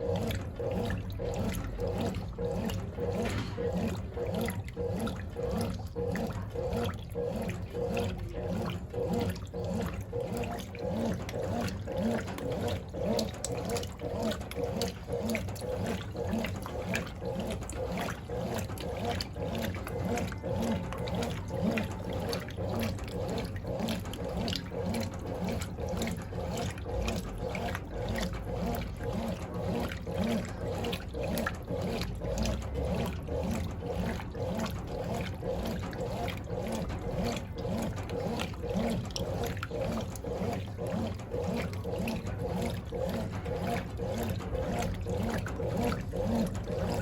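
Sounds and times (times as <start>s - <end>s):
washing machine agitating: 0.0s - 47.0s
water and clothes sloshing: 0.0s - 47.0s.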